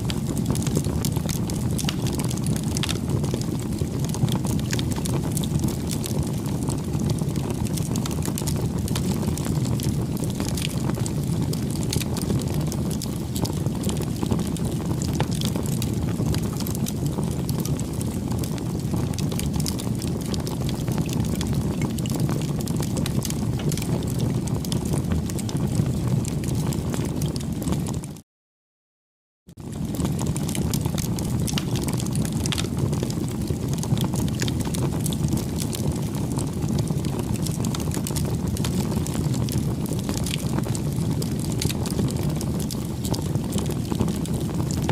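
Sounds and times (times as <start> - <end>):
bonfire flames rumbling: 0.0 - 28.2, 29.6 - 44.9
fire crackling and popping: 0.0 - 28.2, 29.6 - 44.9.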